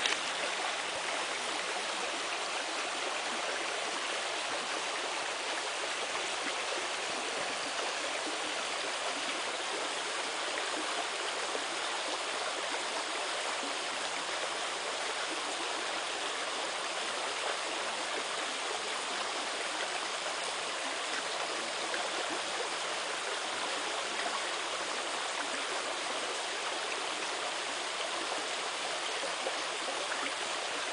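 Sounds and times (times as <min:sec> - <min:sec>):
creek flowing: 0:00.0 - 0:30.9.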